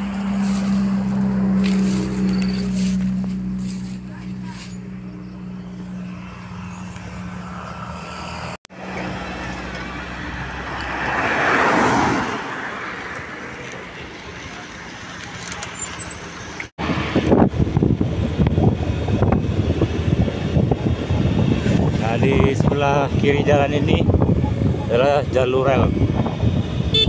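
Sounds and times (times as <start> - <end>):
road vehicle passing: 0.0 - 27.0.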